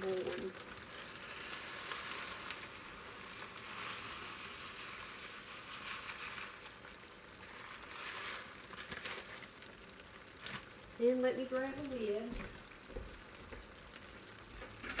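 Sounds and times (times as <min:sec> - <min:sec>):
ground beef sizzling in a skillet: 0:00.0 - 0:15.0.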